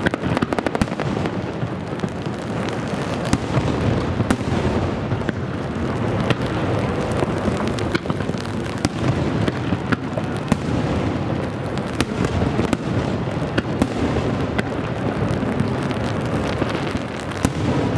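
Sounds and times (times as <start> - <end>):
fireworks booming: 0.0 - 17.9
fireworks sharp cracks: 0.0 - 17.9.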